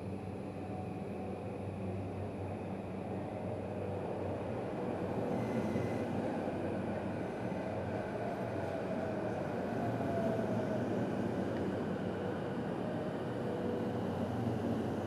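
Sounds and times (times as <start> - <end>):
thin train whines: 0.0 - 15.0.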